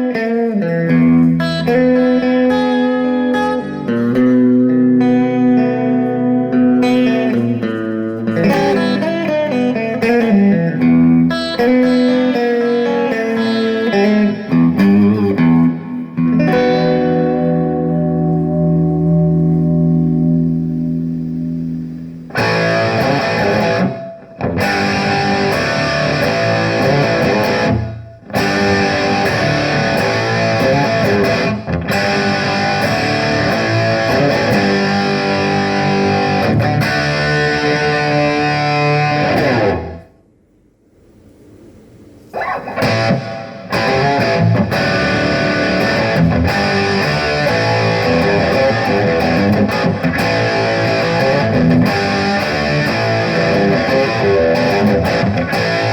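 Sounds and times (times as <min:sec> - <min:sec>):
electric guitar chords and riffs: 0:00.0 - 0:40.2, 0:42.2 - 0:55.9.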